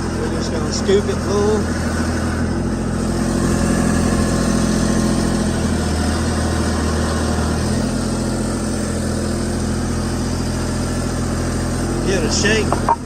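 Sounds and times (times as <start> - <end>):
loader bucket scooping compost: 0.0 - 13.0
skid steer engine running: 0.0 - 13.0.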